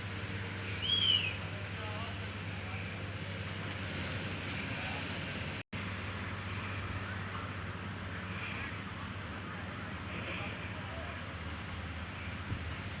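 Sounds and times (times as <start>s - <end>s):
heavy machinery engine humming: 0.0s - 13.0s.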